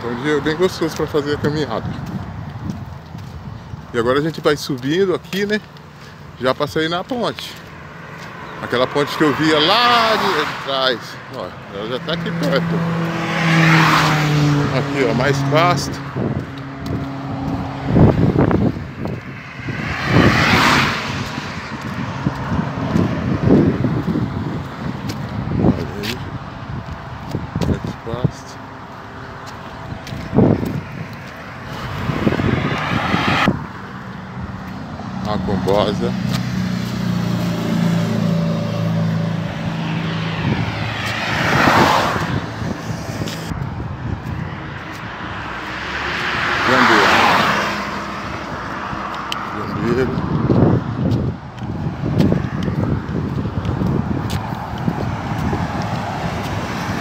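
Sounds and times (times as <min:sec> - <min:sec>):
highway traffic noise: 0:00.0 - 0:57.0
vehicle passing: 0:00.0 - 0:57.0.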